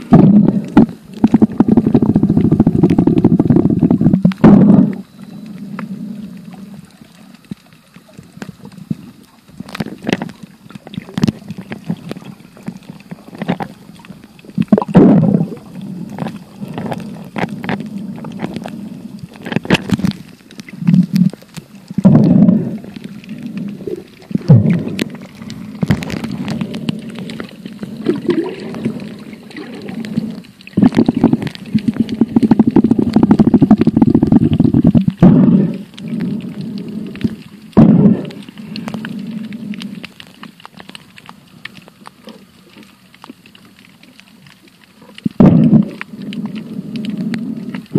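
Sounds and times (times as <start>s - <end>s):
muffled underwater sloshing: 0.0s - 47.9s.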